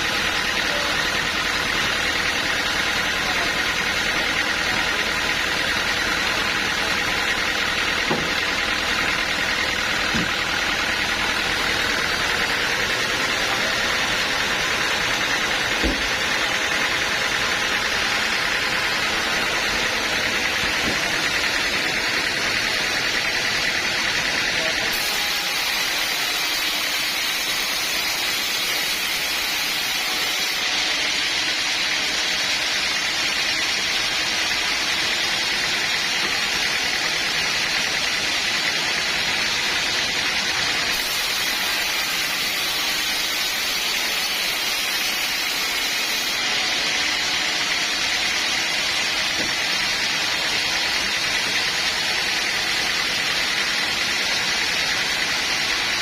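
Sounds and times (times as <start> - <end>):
sawmill machinery rushing: 0.0 - 56.0.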